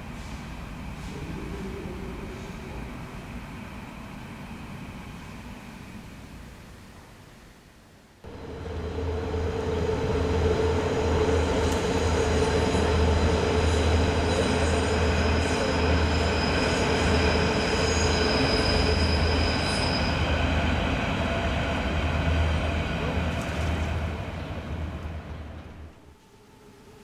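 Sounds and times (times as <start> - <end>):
electric train rumbling on bridge: 0.0 - 6.6, 8.2 - 26.6.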